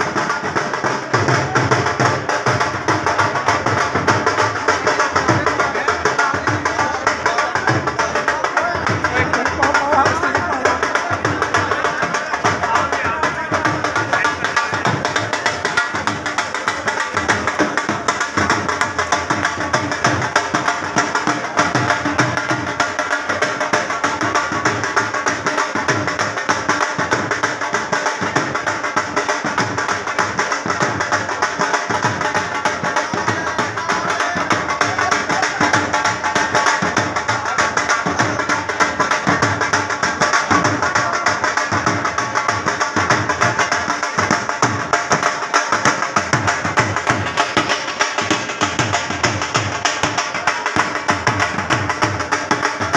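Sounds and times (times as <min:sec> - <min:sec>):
dhol drums beating: 0:00.0 - 0:52.9.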